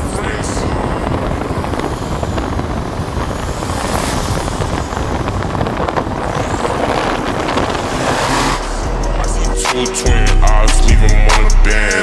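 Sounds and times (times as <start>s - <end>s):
wind on microphone: 0.0s - 11.4s
tyre and road noise: 0.0s - 12.0s
vehicle engine: 0.0s - 12.0s.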